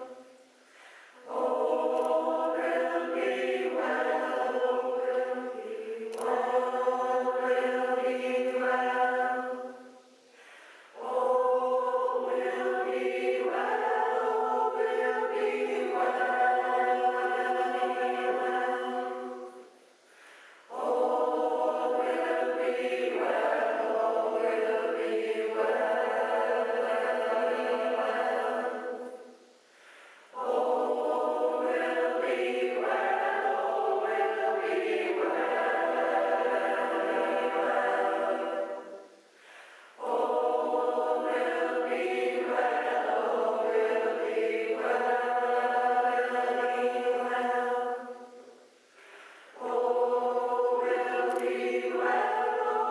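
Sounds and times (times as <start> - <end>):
choir singing held chords: 0.0 - 52.9.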